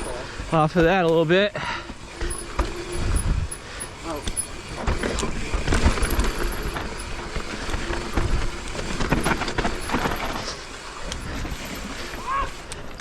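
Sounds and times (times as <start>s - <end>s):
bike clattering over bumps: 0.0s - 13.0s
bike tyres rolling on dirt: 0.0s - 13.0s.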